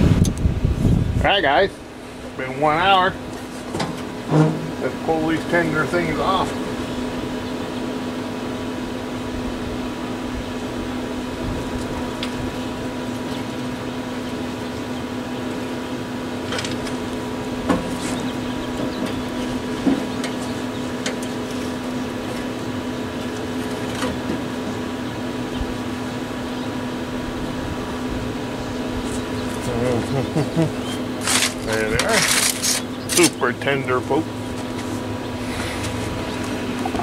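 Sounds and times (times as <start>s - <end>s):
electric fan motor hum: 0.0s - 37.0s.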